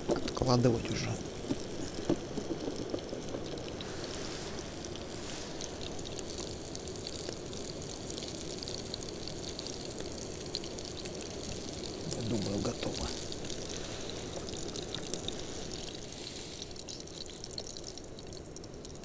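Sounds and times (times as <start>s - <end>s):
fish frying in oil: 0.0s - 19.0s
wood fire crackling: 0.0s - 19.0s.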